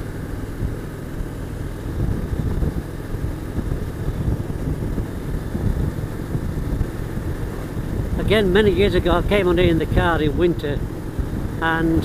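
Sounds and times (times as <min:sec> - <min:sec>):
motorcycle engine drone: 0:00.0 - 0:12.0
wind rushing: 0:01.8 - 0:12.0.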